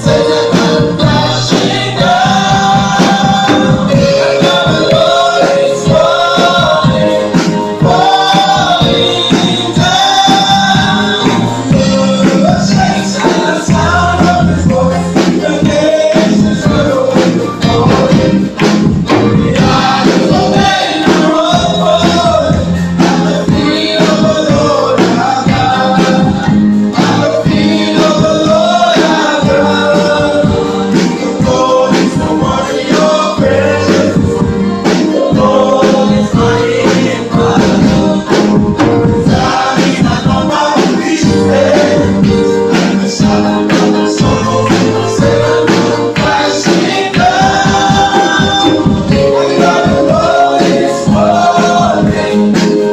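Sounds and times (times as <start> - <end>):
drum kit beat: 0.0 - 52.9
vocal group singing in harmony: 0.0 - 52.9.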